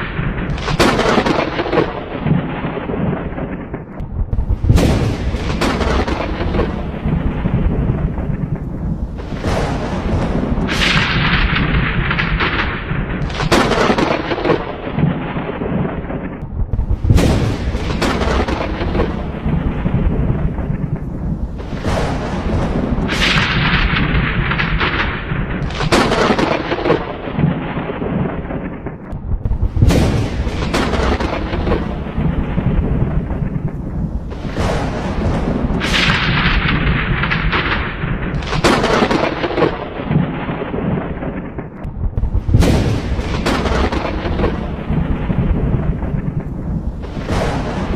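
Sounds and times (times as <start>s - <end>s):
thunder cracks: 0.0s - 47.9s.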